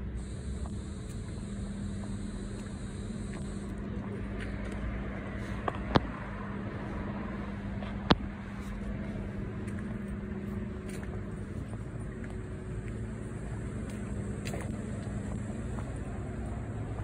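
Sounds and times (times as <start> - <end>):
low hum: 0.0 - 17.0
outdoor background rumble: 0.0 - 17.0.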